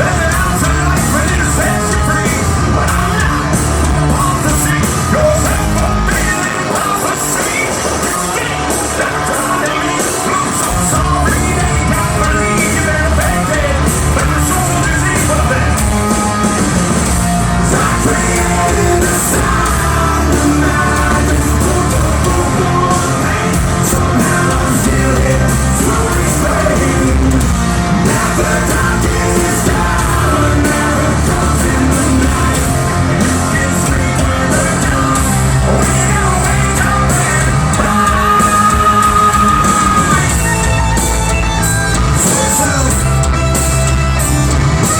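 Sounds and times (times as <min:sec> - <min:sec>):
hard rock band playing: 0:00.0 - 0:44.9
man singing and yelling: 0:00.0 - 0:44.9.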